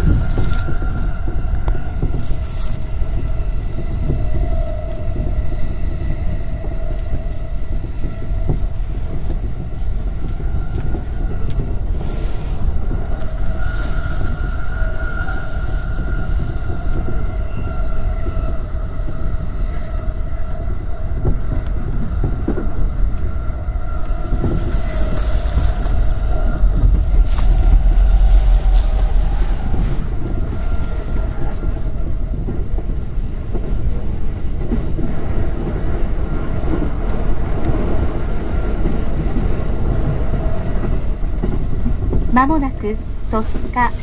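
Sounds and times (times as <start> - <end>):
constant whine: 0.0 - 44.0
train wheels rumbling on rail: 0.0 - 44.0.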